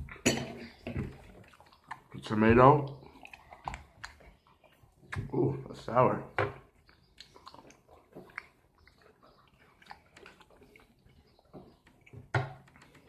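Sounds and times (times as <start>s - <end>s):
chewing salad: 0.0s - 6.0s, 6.6s - 13.0s.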